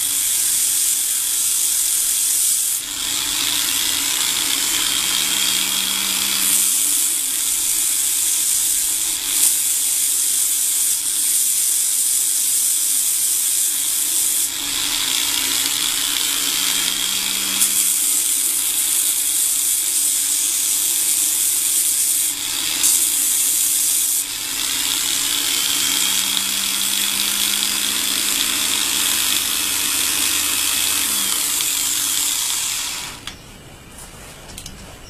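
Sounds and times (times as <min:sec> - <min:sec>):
angle grinder running: 0:00.0 - 0:33.4.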